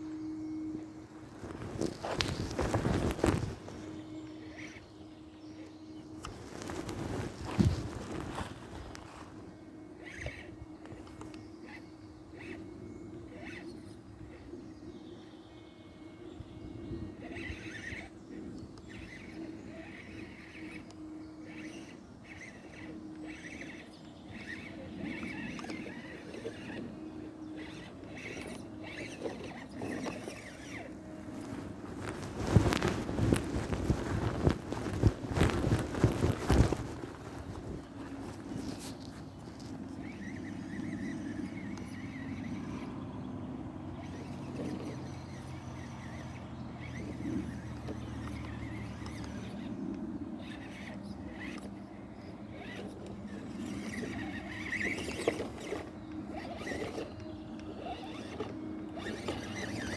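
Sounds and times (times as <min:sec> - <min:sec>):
electric motor whining: 0:00.0 - 0:59.9
faint steady hum: 0:00.0 - 0:59.9.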